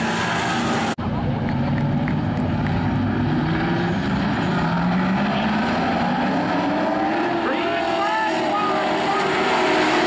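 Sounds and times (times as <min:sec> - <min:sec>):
race car engines: 0:00.0 - 0:10.0.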